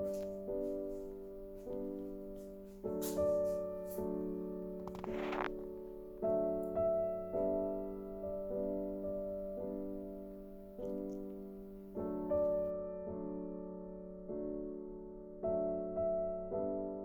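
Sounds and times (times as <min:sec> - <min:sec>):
soft piano notes: 0:00.0 - 0:17.0.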